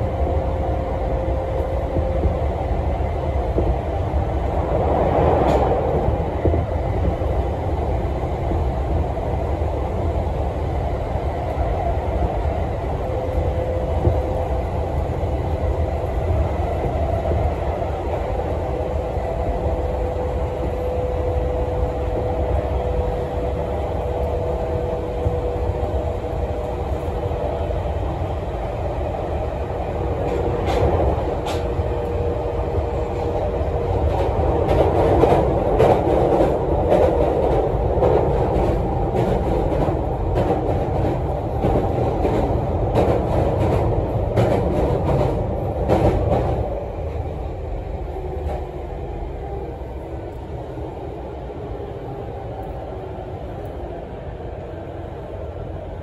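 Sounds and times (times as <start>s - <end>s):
rail clatter: 0.0s - 7.8s, 11.4s - 49.7s
electric train whine: 0.0s - 56.0s
train wheels rumbling on rail: 0.0s - 56.0s.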